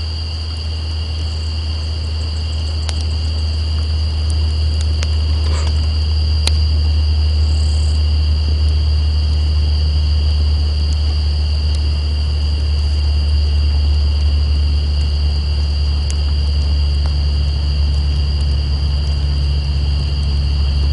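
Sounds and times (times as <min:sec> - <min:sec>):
campfire crackles: 0:00.0 - 0:20.9
night insects droning: 0:00.0 - 0:20.9
truck engine rumble: 0:00.0 - 0:20.9.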